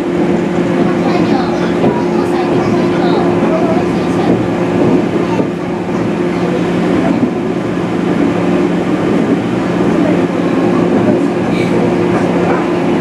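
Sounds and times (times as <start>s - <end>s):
electric train hum: 0.0s - 13.0s
wheels rumbling on rail: 0.0s - 13.0s.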